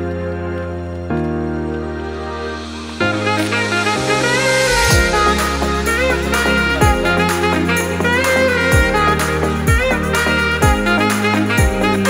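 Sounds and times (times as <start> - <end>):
sustained bass notes: 0.0 - 12.0
wavering lead melody: 0.0 - 12.0.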